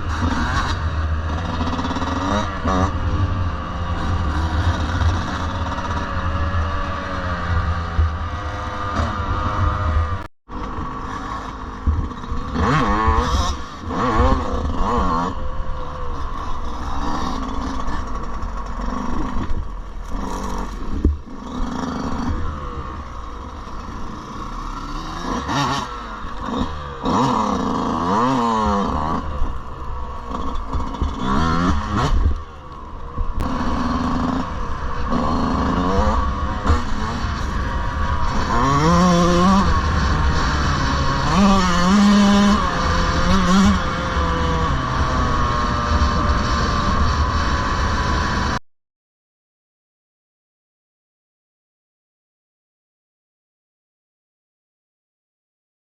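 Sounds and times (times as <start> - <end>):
dirt bike engine revving: 0.0 - 48.6.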